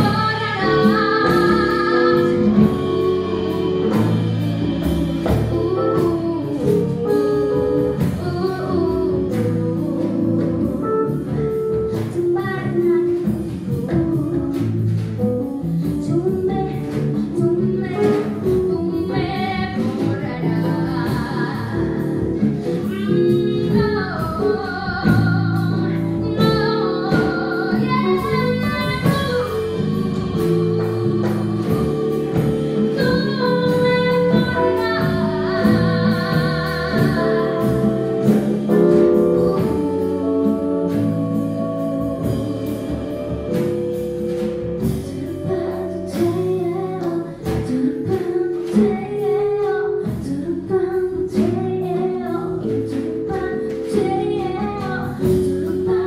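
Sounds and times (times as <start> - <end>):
women singing: 0.0 - 11.4, 12.0 - 56.0
jazz fusion band playing: 0.0 - 56.0.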